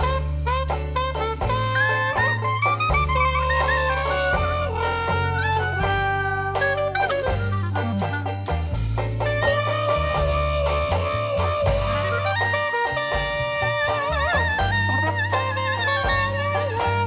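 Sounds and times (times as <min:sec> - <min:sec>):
drums: 0:00.0 - 0:17.0
stepping bass line: 0:00.0 - 0:17.0
wind instruments holding long notes: 0:02.1 - 0:17.0.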